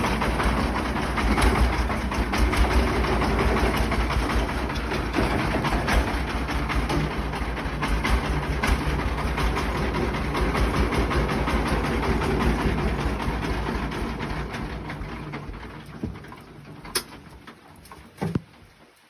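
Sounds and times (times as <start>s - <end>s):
tractor engine chugging: 0.0s - 17.5s.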